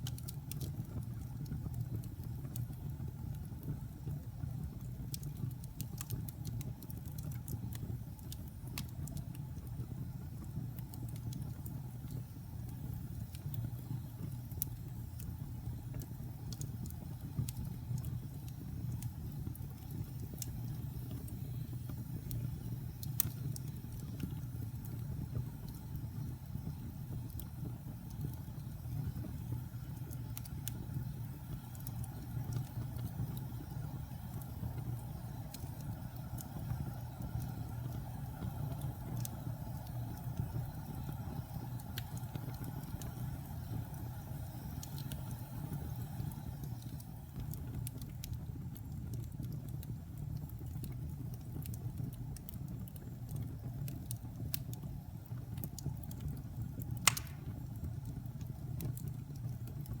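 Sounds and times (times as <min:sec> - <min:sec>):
wood fire rumbling and crackling: 0:00.0 - 1:00.0.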